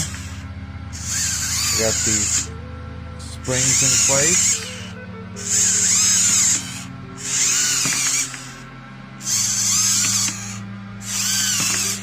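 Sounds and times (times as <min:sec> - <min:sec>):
servo motors whining: 0:00.0 - 0:12.0.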